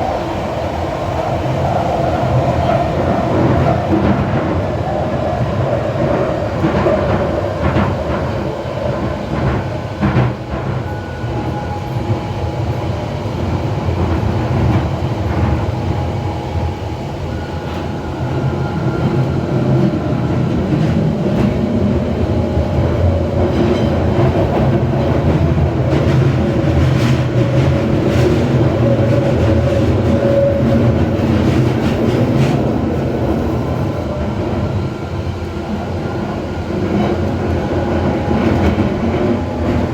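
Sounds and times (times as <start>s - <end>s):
tube train rumbling through tunnel: 0.0s - 39.9s.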